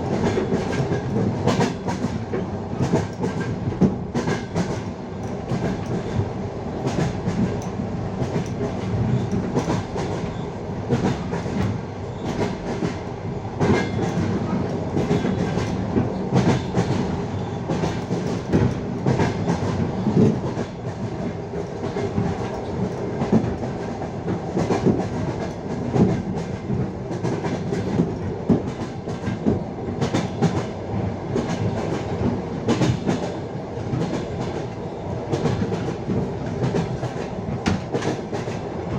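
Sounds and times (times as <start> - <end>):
train wheels clacking over rail joints: 0.0 - 30.8, 31.4 - 38.7
train carriage rumble: 0.0 - 38.9.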